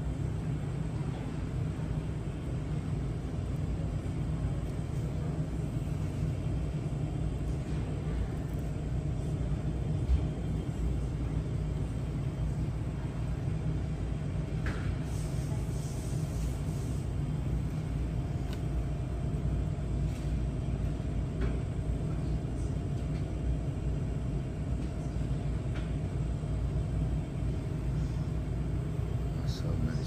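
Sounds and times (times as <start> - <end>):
store background rumble: 0.0 - 30.0.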